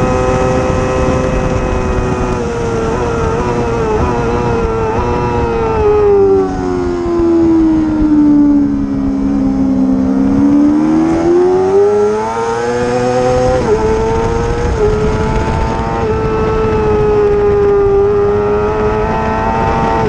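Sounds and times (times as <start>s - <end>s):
racing motorcycle engine: 0.0s - 20.0s.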